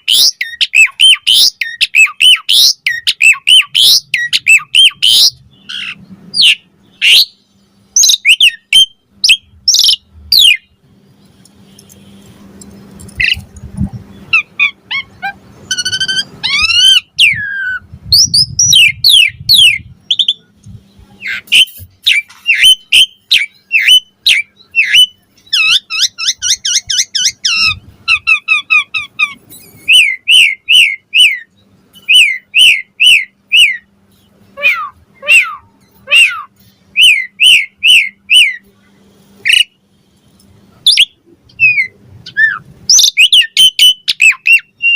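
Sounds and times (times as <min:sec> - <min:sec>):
starling singing: 0:00.0 - 0:11.9, 0:13.0 - 0:38.8, 0:39.4 - 0:39.8, 0:40.7 - 0:44.9.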